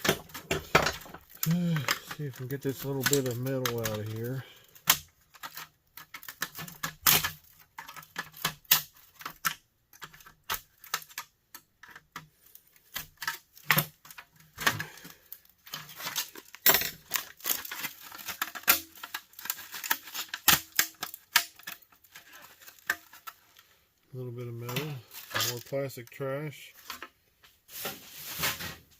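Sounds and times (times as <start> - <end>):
plastic and metal parts clattering: 0.0 - 28.9.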